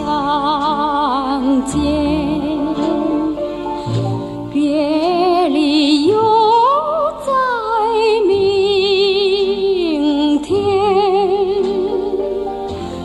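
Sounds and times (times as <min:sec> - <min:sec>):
woman singing: 0:00.0 - 0:03.6, 0:04.5 - 0:12.5
instrumental accompaniment: 0:00.0 - 0:13.0.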